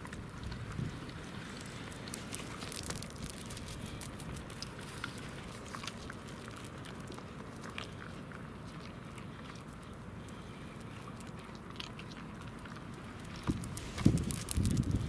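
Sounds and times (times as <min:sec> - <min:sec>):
ice clicking and crackling: 0:00.0 - 0:15.0
low steady rumble: 0:00.0 - 0:15.0.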